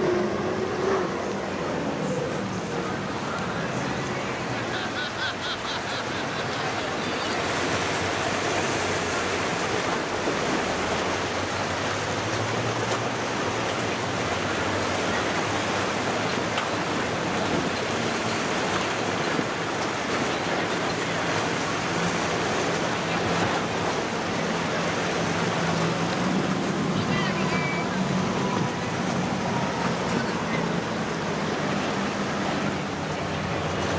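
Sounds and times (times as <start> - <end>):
faint boat engine drone: 0.0 - 33.9
waves rushing: 0.0 - 33.9.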